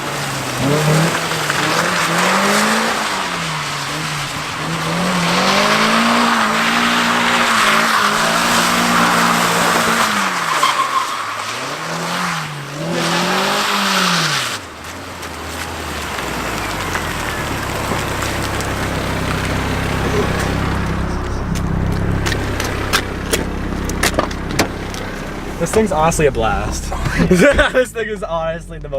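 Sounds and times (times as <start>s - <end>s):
tyres sliding on wet pavement: 0.0s - 27.9s
car engine revving: 0.0s - 28.9s.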